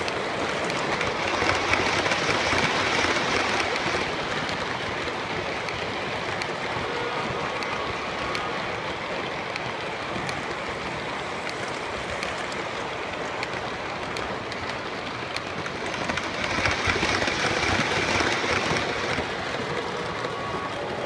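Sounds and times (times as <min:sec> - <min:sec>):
clicks at rail joints: 0:00.0 - 0:06.9, 0:09.3 - 0:20.8
toy train cars rumbling on track: 0:00.0 - 0:21.0.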